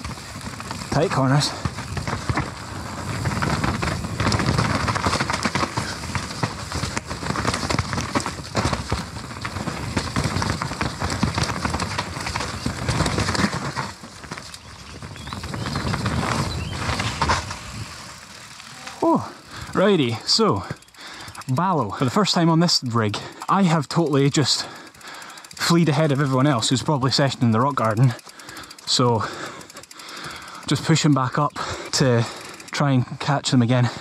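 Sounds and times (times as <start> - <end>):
bike rattling and knocking: 0.0 - 34.0
bike tyres over dirt and rock: 0.0 - 34.0.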